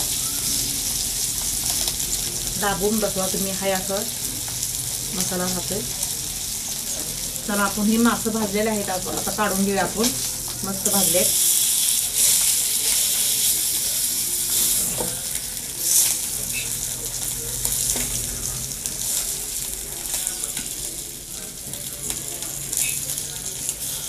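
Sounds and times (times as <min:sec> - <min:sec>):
fish sizzling in oil: 0:00.0 - 0:24.0.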